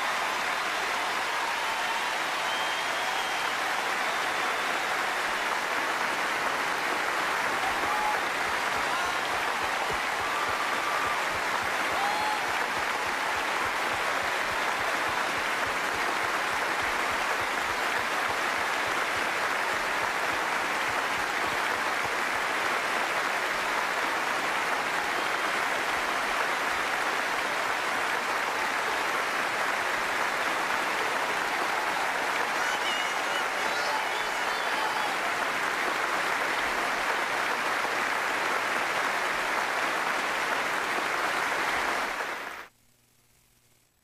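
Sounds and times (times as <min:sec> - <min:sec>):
audience applause: 0:00.0 - 0:42.7.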